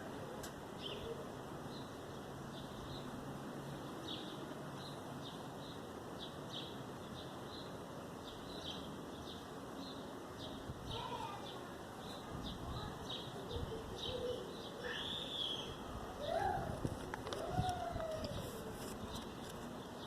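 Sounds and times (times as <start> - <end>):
faint steady hiss: 0.0 - 20.0
small birds chirping: 0.0 - 20.0.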